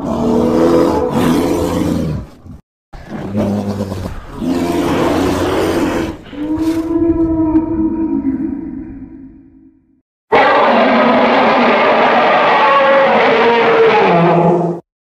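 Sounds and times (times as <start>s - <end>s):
monster roars: 0.0s - 2.3s, 3.0s - 9.5s, 10.3s - 14.8s.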